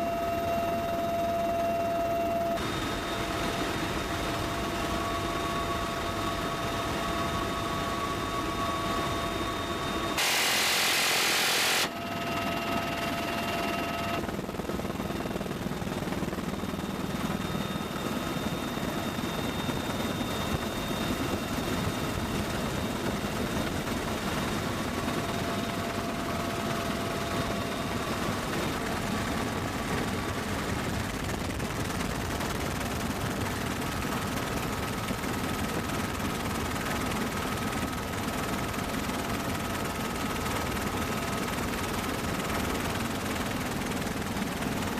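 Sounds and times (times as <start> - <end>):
faint steady whines: 0.0 - 44.9
helicopter running: 0.0 - 44.9.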